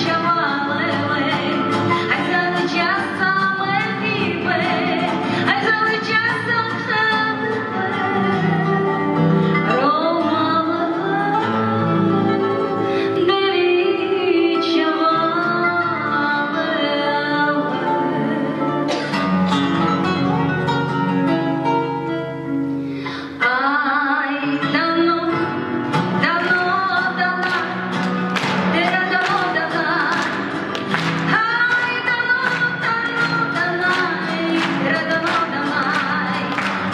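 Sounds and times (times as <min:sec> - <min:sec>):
person singing: 0:00.0 - 0:19.4, 0:23.4 - 0:27.9, 0:28.7 - 0:36.9
guitar strumming chords: 0:00.0 - 0:23.6, 0:24.4 - 0:36.9.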